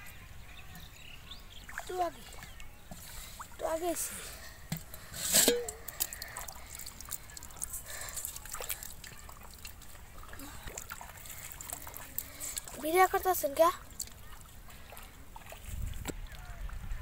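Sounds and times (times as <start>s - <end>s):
shallow water trickling: 0.6s - 16.6s
small water splashes: 1.5s - 17.0s.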